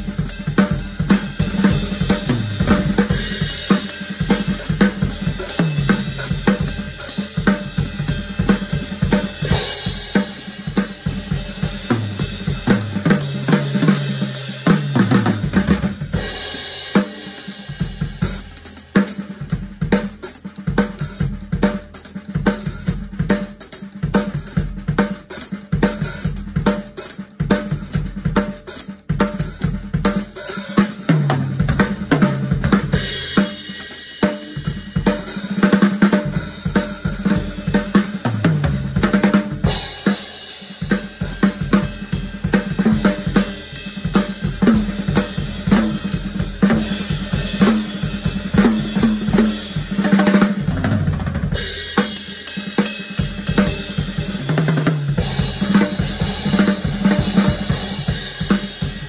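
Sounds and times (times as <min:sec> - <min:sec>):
bass drum: 0:00.0 - 0:30.4, 0:31.1 - 0:52.2, 0:53.2 - 0:59.0
drum solo on snare and toms: 0:00.0 - 0:59.0.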